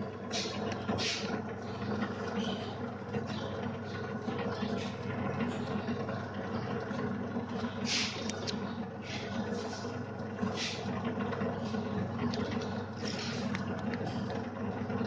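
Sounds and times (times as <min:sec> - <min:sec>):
packing machine humming: 0:00.0 - 0:15.0.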